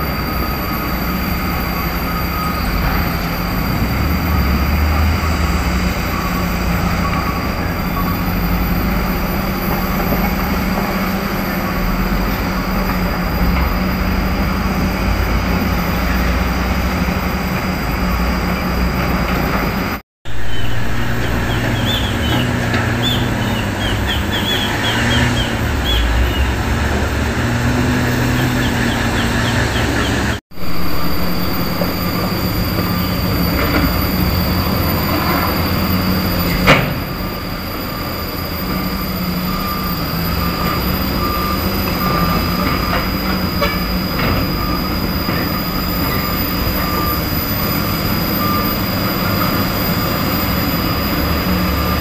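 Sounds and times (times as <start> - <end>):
reversing alarm beeping: 0.0 - 19.4, 20.3 - 52.0
diesel engines running: 0.0 - 52.0.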